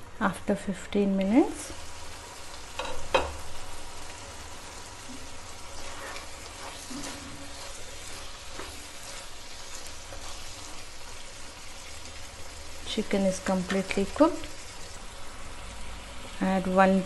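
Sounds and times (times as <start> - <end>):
curry sizzling in a pan: 1.1 - 17.0.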